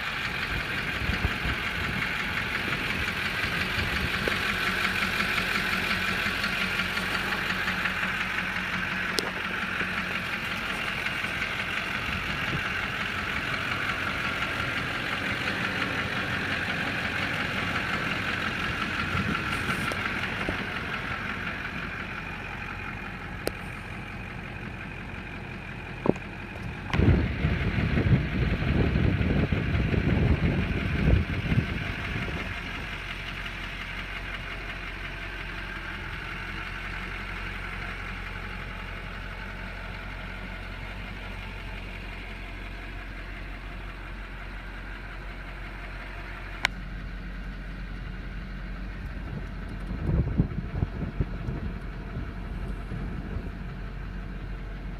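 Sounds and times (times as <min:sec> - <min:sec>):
diesel truck engine idling: 0:00.0 - 0:54.9.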